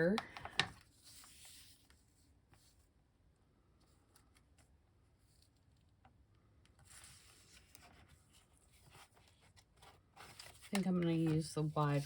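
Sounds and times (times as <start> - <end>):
faint rustling of tape and paper: 0.0 - 12.0.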